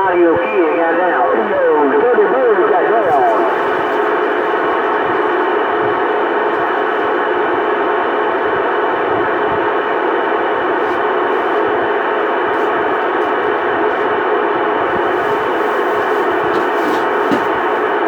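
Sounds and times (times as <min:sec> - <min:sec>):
radio static: 0:00.0 - 0:18.0.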